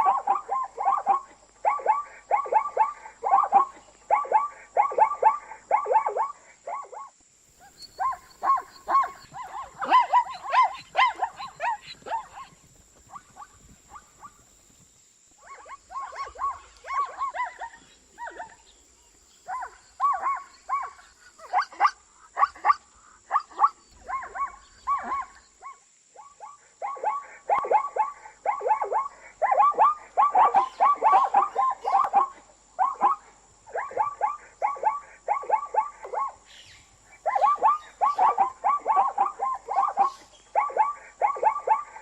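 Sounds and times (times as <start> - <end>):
zebra barking yelps: 0.0 - 14.7, 15.4 - 18.8, 19.4 - 42.0.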